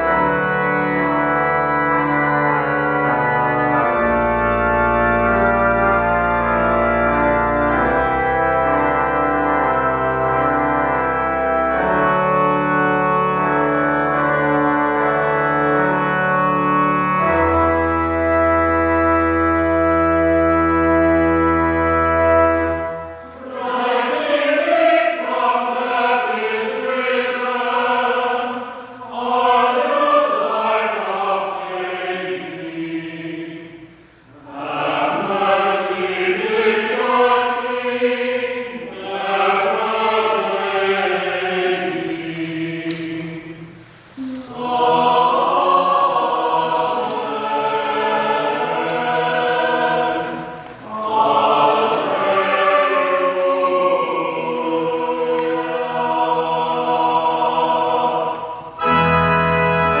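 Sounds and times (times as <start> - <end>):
church choir singing: 0.0 - 60.0.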